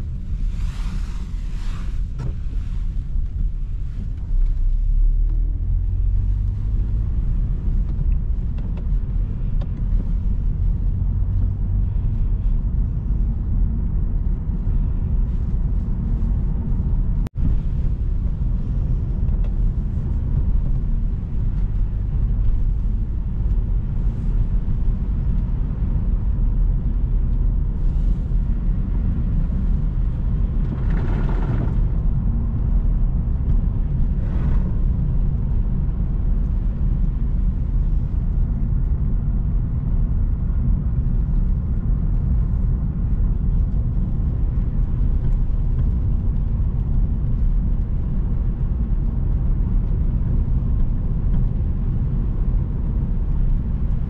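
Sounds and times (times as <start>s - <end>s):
car engine: 0.0s - 54.0s
road rumble: 0.0s - 54.0s.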